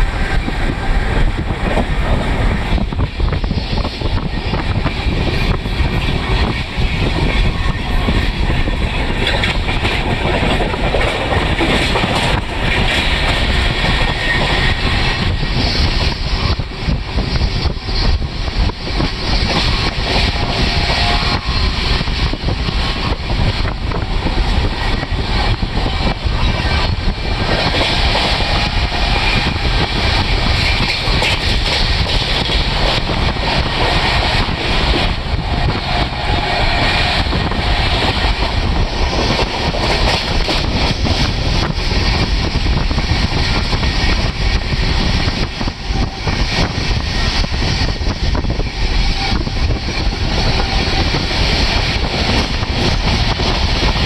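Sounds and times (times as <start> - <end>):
train rumble and rush: 0.0 - 54.0.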